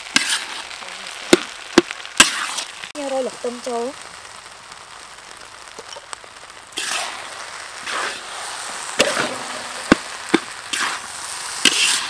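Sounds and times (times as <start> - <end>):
sizzling swishes of rice: 0.0 - 12.0.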